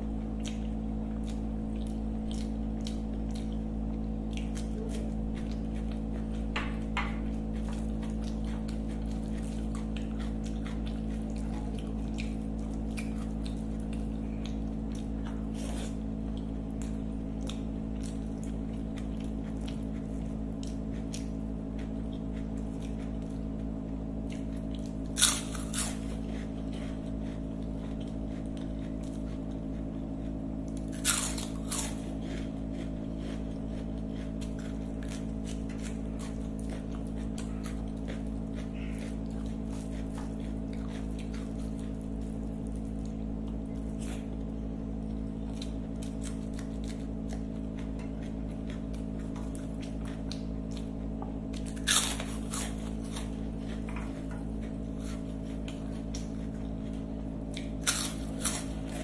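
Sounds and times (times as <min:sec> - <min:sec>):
person chewing food: 0:00.0 - 0:59.0
steady hum: 0:00.0 - 0:59.0.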